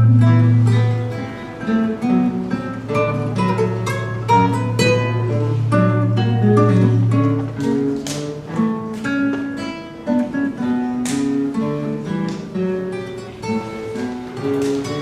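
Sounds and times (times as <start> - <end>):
acoustic guitars playing baroque piece: 0.0 - 15.0.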